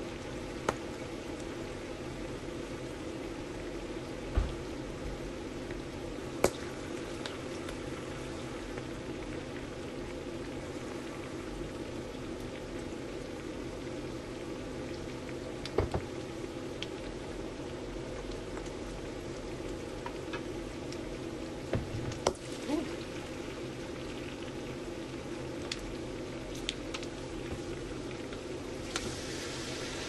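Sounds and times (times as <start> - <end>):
liquid bubbling in a pot: 0.0 - 30.0.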